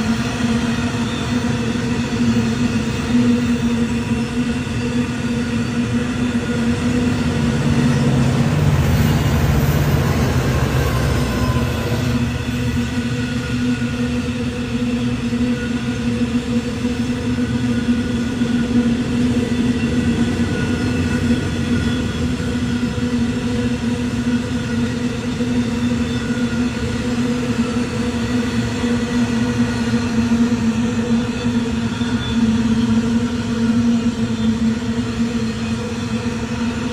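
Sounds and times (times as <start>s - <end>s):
train running: 0.0s - 36.9s.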